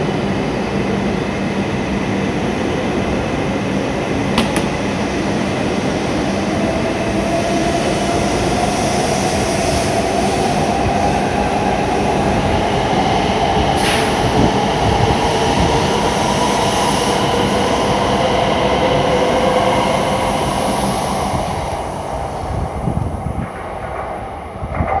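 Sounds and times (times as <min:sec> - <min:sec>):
train wheels rumbling: 0:02.3 - 0:25.0.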